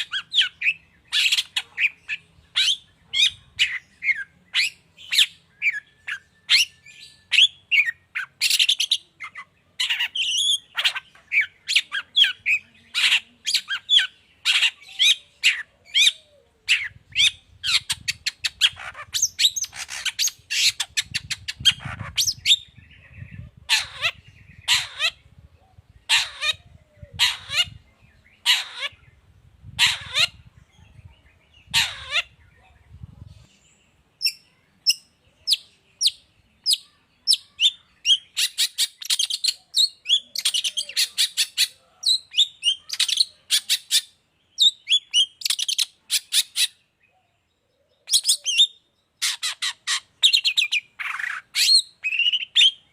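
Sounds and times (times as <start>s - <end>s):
bird harsh calls: 0.0s - 32.7s, 34.2s - 52.9s
bird chattering song: 0.0s - 52.9s.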